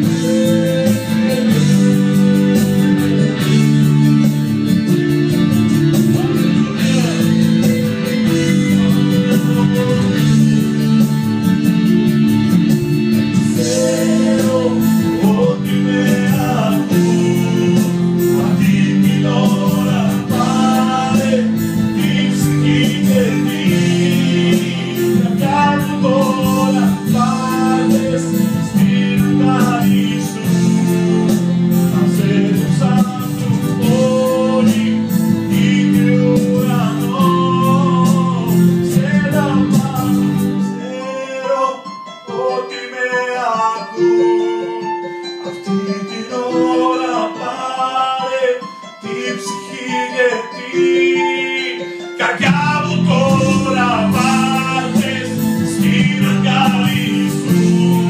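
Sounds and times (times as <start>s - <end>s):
instrumental backing music: 0.0s - 58.0s
person singing: 0.0s - 58.0s.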